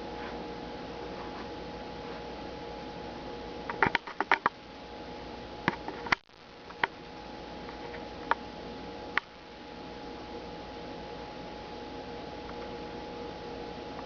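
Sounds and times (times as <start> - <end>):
steady hiss with faint hum: 0.0 - 14.0.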